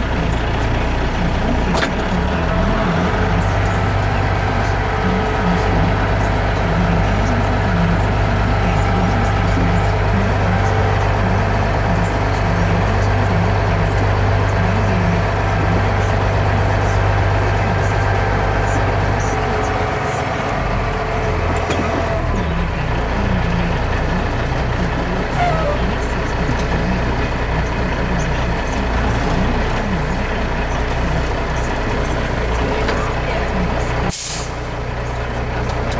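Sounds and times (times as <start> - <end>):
engine droning: 0.0 - 35.9.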